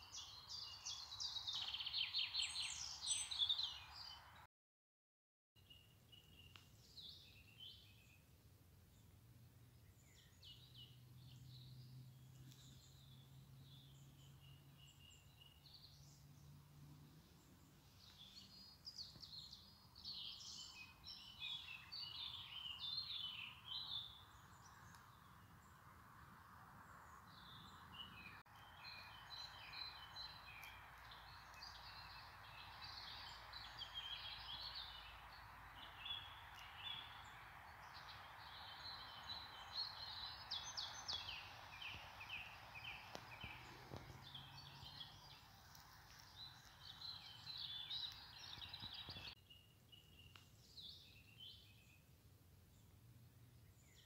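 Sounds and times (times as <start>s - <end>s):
songbird chirping: 0.0s - 4.5s, 5.6s - 54.0s.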